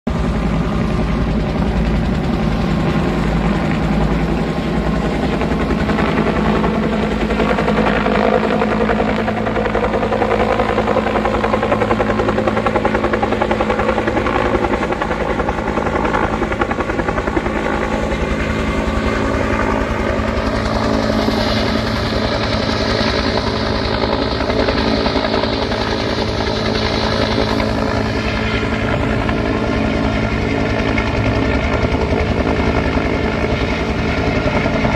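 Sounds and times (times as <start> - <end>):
helicopter rotor beating: 0.1 - 34.9
turbine engine hum: 0.1 - 34.9.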